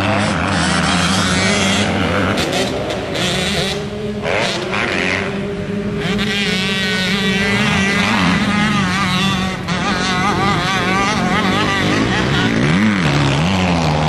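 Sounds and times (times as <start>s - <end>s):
motocross bike engine revving: 0.0s - 14.0s
steady engine note: 0.0s - 14.0s.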